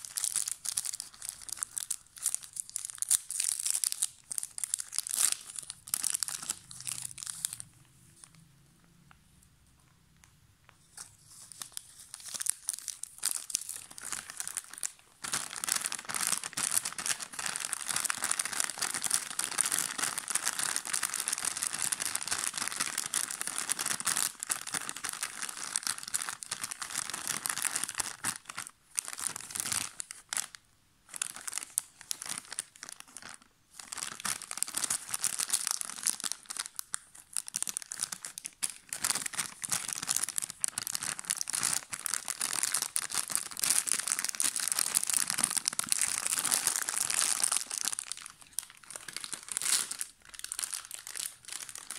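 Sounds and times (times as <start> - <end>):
plastic and foil wrappers crinkling: 0.0 - 8.4, 10.6 - 51.9.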